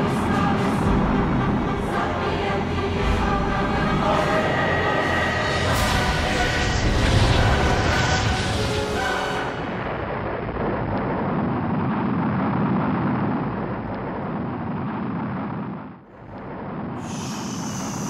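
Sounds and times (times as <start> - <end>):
rocket engine rumble: 0.0 - 18.0.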